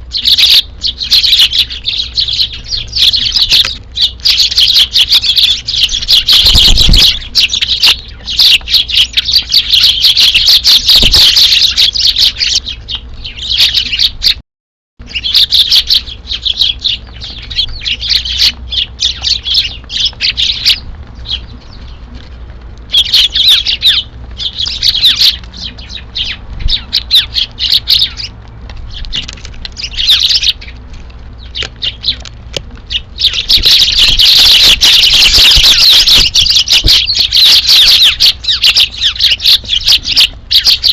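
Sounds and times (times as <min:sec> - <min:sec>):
sparrows chirping: 0:00.0 - 0:14.4, 0:15.0 - 0:40.9.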